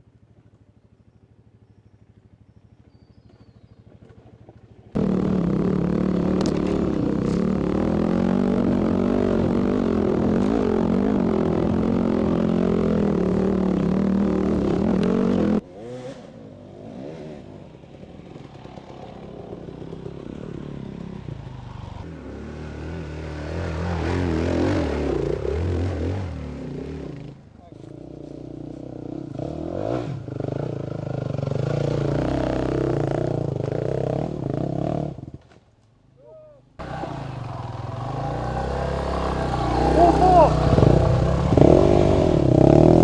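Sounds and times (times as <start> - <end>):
lower-pitched motorcycle engine: 0.0 - 35.4, 36.8 - 43.0
dirt bike engine revving: 5.0 - 27.4, 28.2 - 35.3, 36.8 - 43.0.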